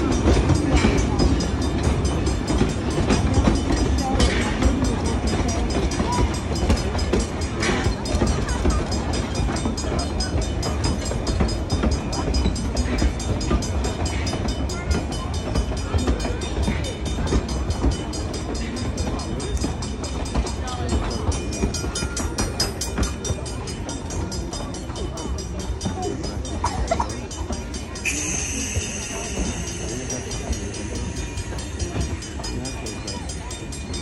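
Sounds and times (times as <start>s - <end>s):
train rolling past rumble: 0.0s - 34.0s
train wheels clicking on rails: 0.0s - 34.0s.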